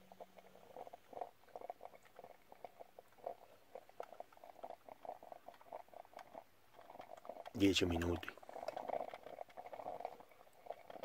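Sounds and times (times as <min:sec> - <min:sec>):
water crackling as it heats: 0:00.0 - 0:11.0.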